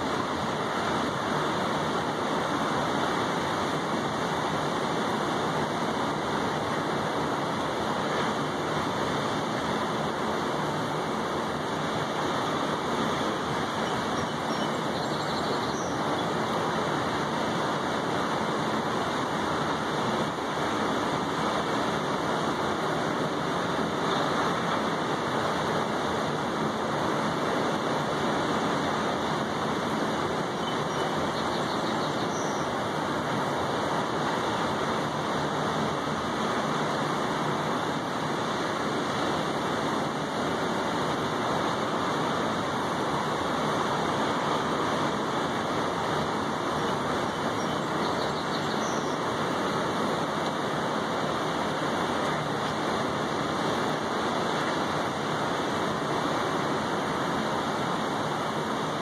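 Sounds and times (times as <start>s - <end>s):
rain falling on tabletop and railing: 0.0s - 59.0s.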